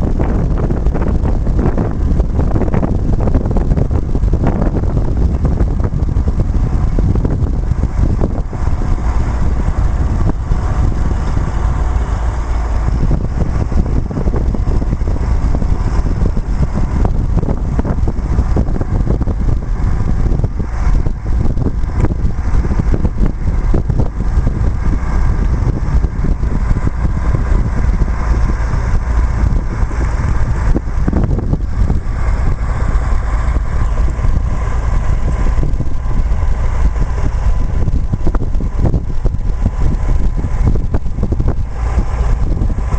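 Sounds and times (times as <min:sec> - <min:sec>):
sprayer engine running: 0:00.0 - 0:42.9
wind noise on microphone: 0:00.0 - 0:42.9.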